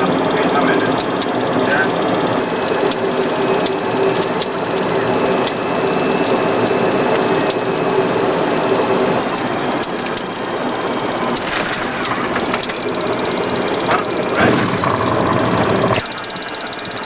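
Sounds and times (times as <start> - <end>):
steady hum: 0.0 - 16.7
cockpit roar of airflow and engines: 0.0 - 17.0.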